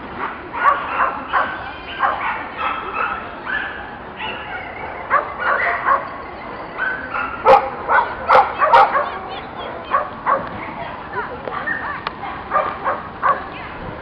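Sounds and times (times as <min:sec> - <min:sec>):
dog barking and yipping: 0:00.6 - 0:10.5, 0:11.7 - 0:13.5.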